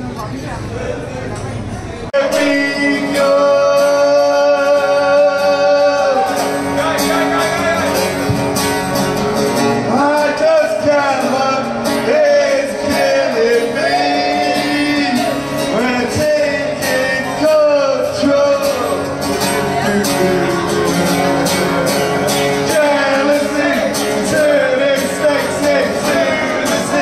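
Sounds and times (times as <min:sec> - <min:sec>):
man singing: 0:02.2 - 0:08.1, 0:09.8 - 0:27.0
acoustic guitar strumming: 0:02.2 - 0:27.0.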